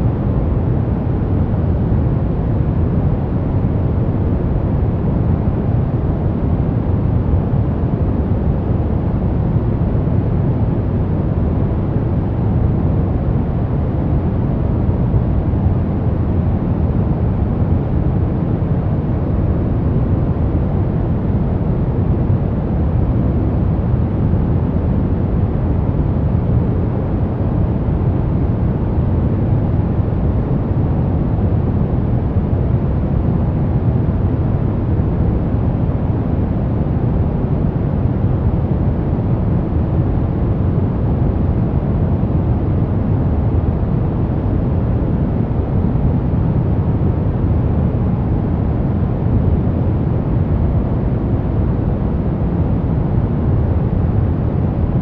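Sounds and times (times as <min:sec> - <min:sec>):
deep steady white noise: 0:00.0 - 0:55.0.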